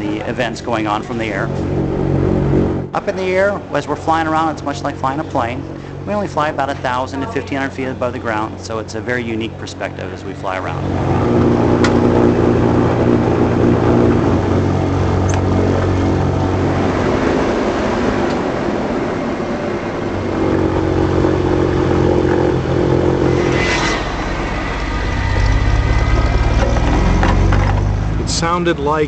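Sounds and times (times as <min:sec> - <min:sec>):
airship engines droning: 0:00.0 - 0:29.0.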